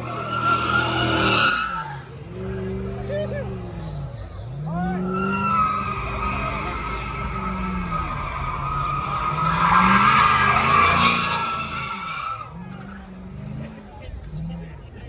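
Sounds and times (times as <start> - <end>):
car engine revving: 0.0 - 15.0
car tyres squealing: 0.0 - 15.0.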